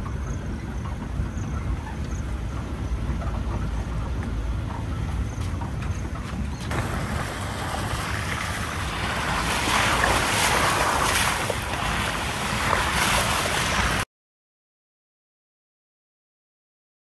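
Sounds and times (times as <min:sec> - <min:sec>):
wind buffeting microphone: 0:00.0 - 0:14.0
vehicle rumbling while moving: 0:00.0 - 0:14.1.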